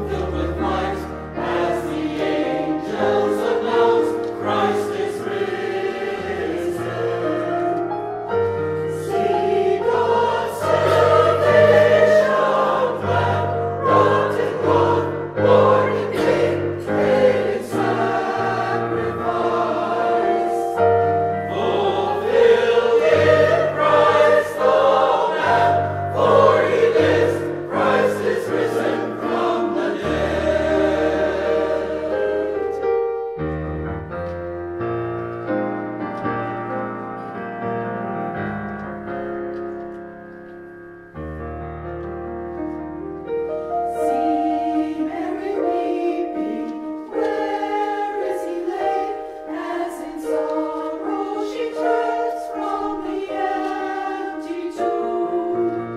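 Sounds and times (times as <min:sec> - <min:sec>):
choir singing: 0:00.0 - 0:33.3, 0:43.6 - 0:55.9.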